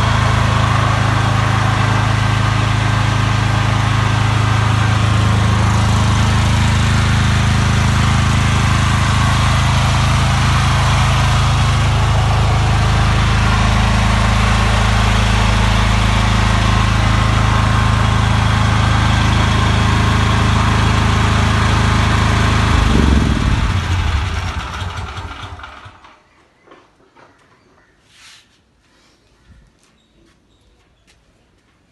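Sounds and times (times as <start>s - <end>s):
generator engine running: 0.0s - 26.2s.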